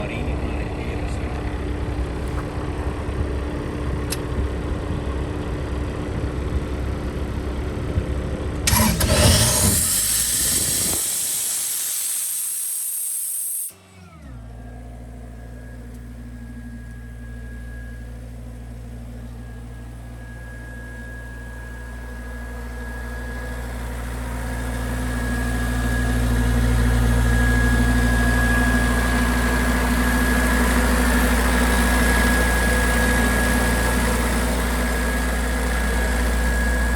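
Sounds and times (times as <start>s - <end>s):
diesel compressor engine running: 0.0s - 36.9s.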